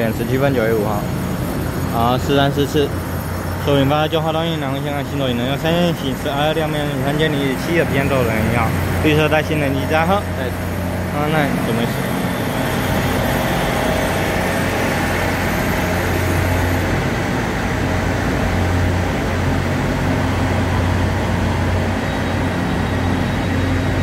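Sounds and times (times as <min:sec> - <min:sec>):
diesel engines humming: 0:00.0 - 0:24.0.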